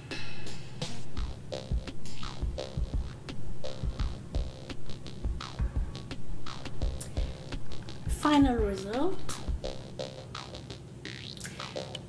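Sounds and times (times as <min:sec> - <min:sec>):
music with low beat: 0:00.0 - 0:12.0.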